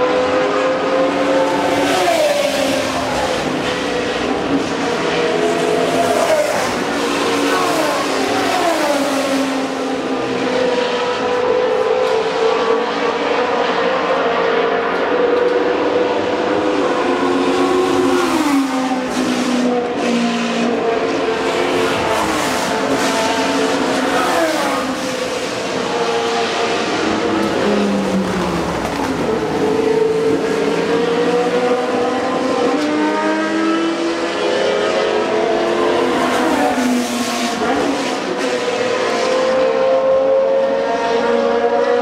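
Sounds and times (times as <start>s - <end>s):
racing car engines passing: 0.0s - 42.0s.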